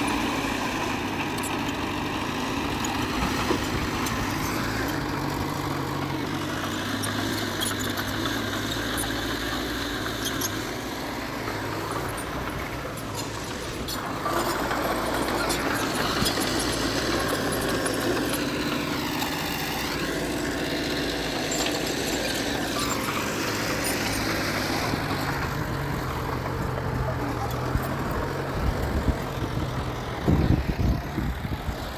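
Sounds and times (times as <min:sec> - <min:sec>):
diesel machinery engine running: 0:00.0 - 0:31.9.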